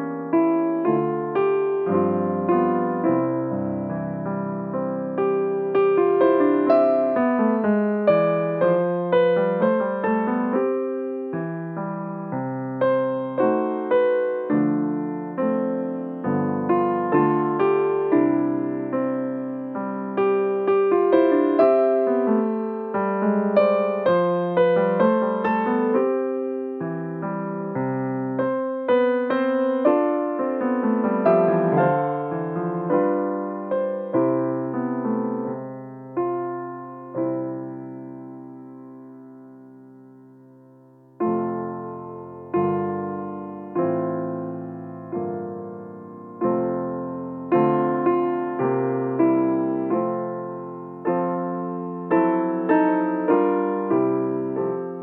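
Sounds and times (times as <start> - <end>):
piano playing chords and melody: 0.0 - 55.0.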